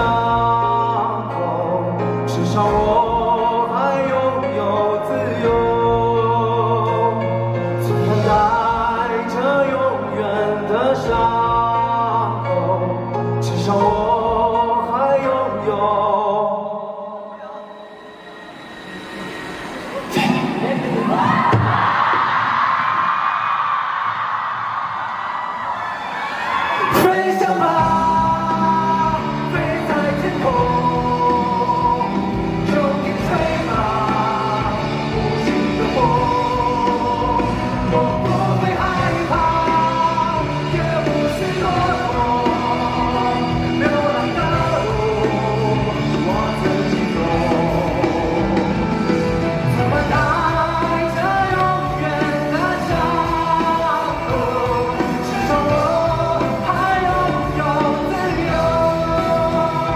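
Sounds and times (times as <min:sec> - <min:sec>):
pop-rock band music: 0:00.0 - 0:23.4, 0:26.2 - 0:59.9.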